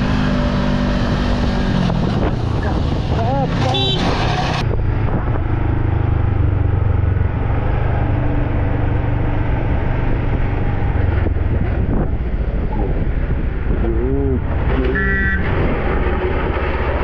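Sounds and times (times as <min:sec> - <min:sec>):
road and wind noise: 0:00.0 - 0:17.0
vehicle engine humming: 0:00.0 - 0:17.0.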